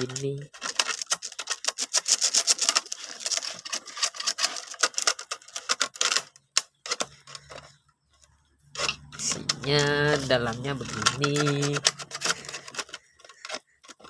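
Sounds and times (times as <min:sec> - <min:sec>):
hard parts clicking and rattling: 0:00.0 - 0:14.0.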